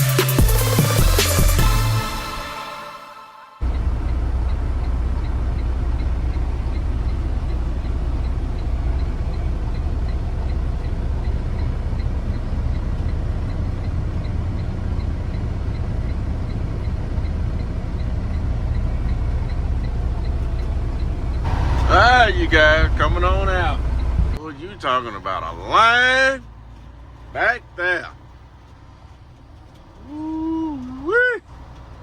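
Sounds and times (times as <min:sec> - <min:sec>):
truck engine rumble: 0:00.0 - 0:02.7, 0:03.6 - 0:32.0
faint regular ticking: 0:03.6 - 0:32.0.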